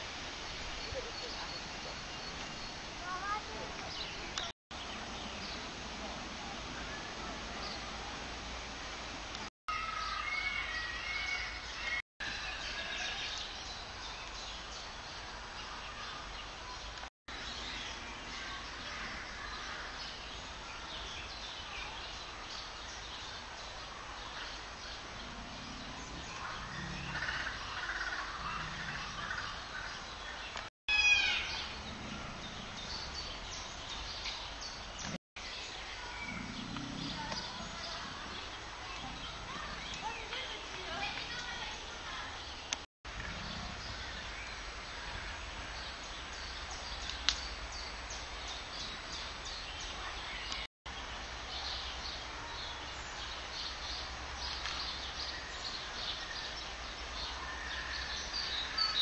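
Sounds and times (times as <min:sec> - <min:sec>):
birds chirping faintly: 0:00.1 - 0:59.0.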